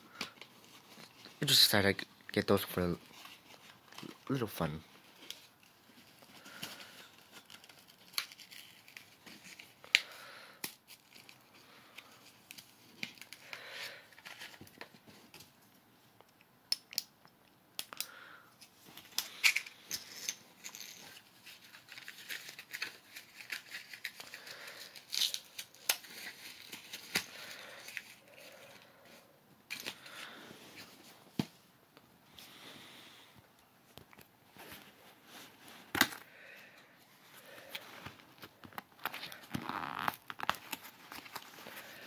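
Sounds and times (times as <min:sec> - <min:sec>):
packaging rustling and crinkling: 0:02.6 - 0:15.6, 0:18.7 - 0:31.4, 0:33.9 - 0:42.0.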